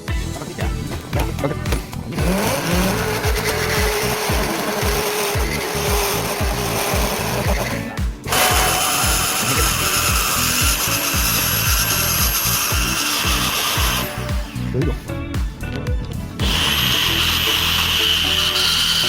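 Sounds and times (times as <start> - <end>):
rotary tool grinding steel: 0.8 - 14.8, 16.4 - 19.0.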